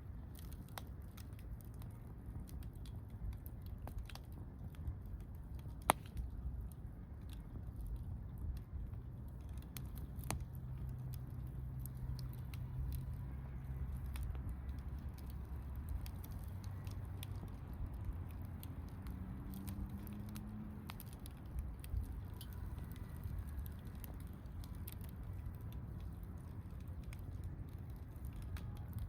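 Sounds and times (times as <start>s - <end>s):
campfire crackling and popping: 0.0s - 29.0s
low steady rumble: 0.0s - 29.0s.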